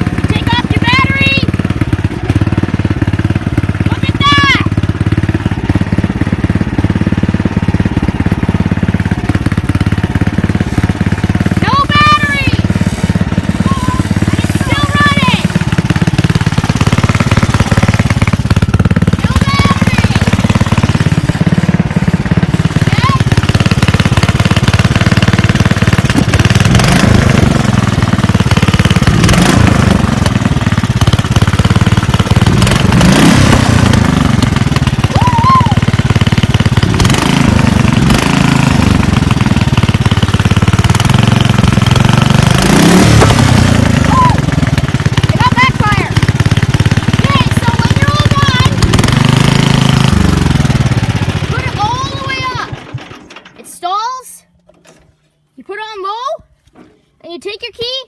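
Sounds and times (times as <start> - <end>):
riding lawn mower engine running: 0.0 - 55.8.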